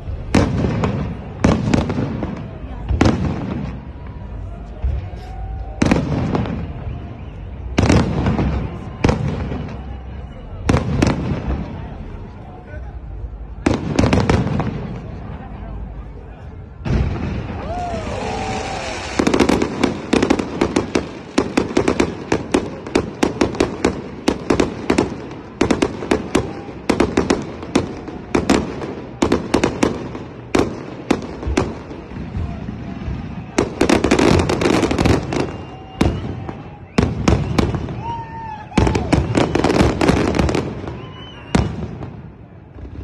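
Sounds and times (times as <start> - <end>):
fireworks bangs: 0.0 - 12.6, 13.3 - 15.9, 16.6 - 43.0.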